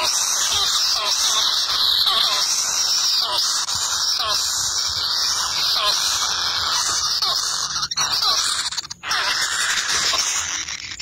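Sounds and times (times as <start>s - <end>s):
nestlings begging calls: 0.0s - 11.0s.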